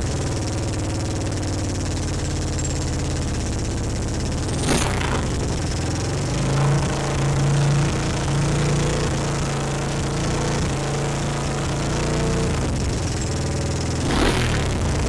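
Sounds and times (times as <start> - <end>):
single-cylinder engine running: 0.0 - 15.0.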